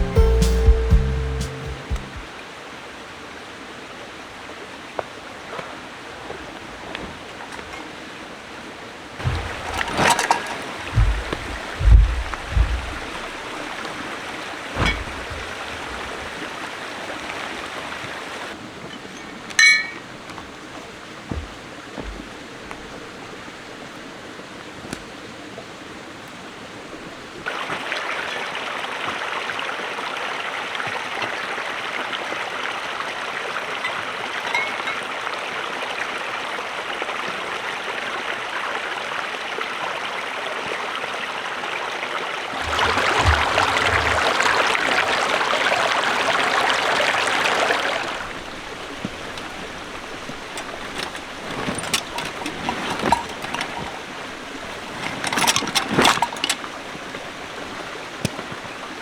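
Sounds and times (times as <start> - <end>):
rushing flowing water: 1.5 - 59.0.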